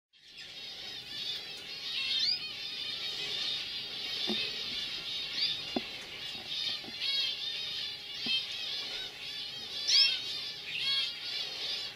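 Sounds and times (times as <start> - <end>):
canaries singing: 0.2 - 11.9.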